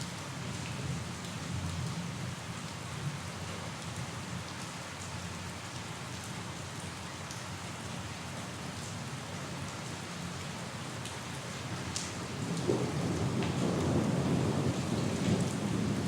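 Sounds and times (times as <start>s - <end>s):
rain hissing and pattering: 0.0s - 16.0s.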